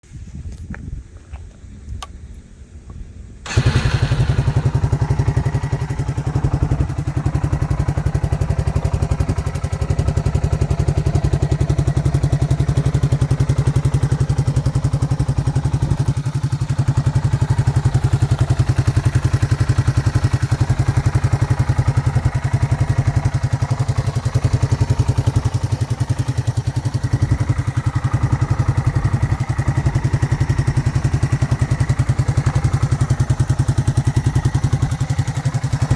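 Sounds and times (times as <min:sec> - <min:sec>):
motorcycle engine idling: 0:03.4 - 0:35.9.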